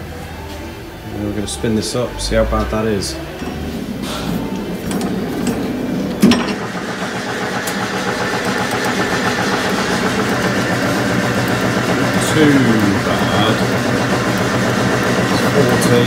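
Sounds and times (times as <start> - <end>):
balancing machine mechanical hum: 0.0 - 16.0.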